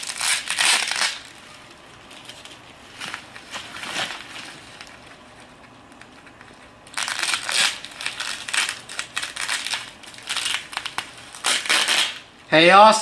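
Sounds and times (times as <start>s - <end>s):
packaging crinkling: 0.0s - 12.3s.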